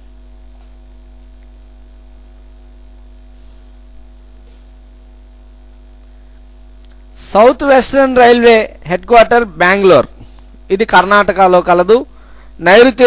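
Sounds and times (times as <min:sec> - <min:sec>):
electrical mains hum: 0:00.0 - 0:13.0
fast interference ticking: 0:00.0 - 0:13.0.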